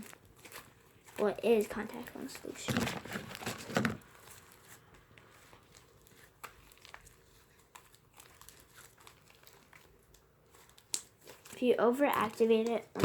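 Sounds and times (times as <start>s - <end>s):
slime squishing and crackling: 0.0s - 13.0s.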